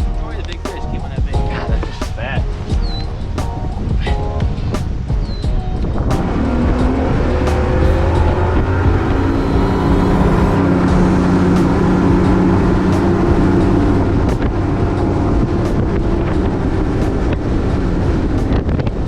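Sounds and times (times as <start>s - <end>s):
rushing water: 0.0s - 19.0s
wind noise: 0.0s - 19.0s.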